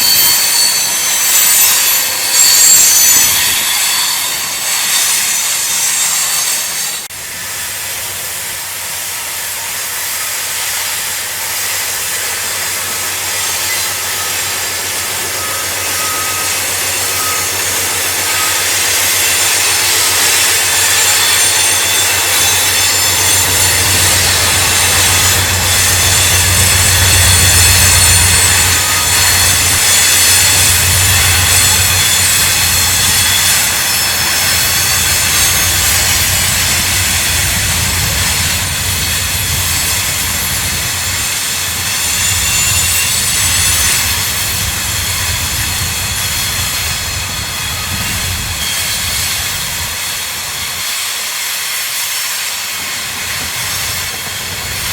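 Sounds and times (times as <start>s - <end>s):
rumble of train wheels on rail: 0.0s - 54.9s
wheel flanges squealing: 0.0s - 54.9s.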